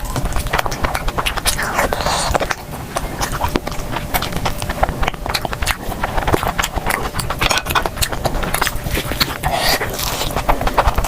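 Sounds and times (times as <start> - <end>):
chewing and crunching: 0.0 - 11.0.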